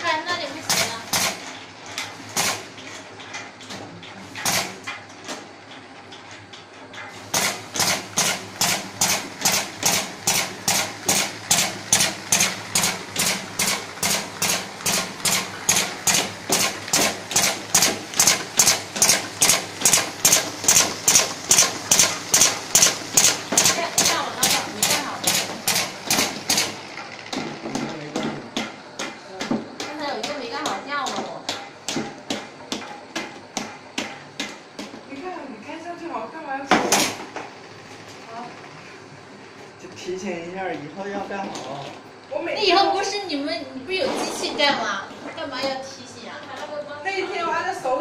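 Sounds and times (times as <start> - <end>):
low machine hum: 0.0 - 48.0.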